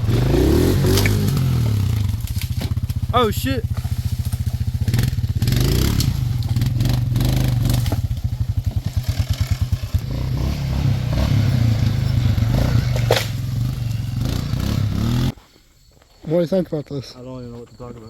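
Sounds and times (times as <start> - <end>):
atv engine running: 0.0 - 15.4.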